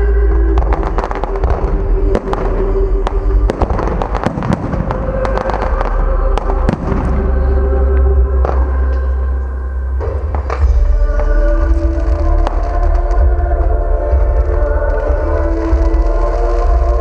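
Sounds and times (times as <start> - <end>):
heavy low rumble: 0.0 - 17.0
fireworks bangs and pops: 0.5 - 7.6, 10.0 - 17.0.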